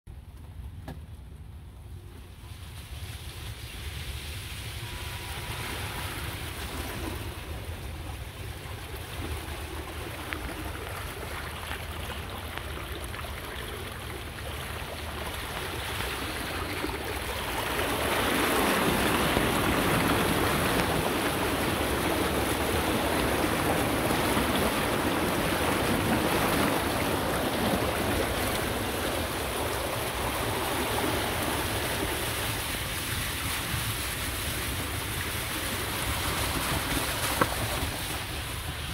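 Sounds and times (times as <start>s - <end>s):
water rushing and splashing: 1.9s - 38.9s.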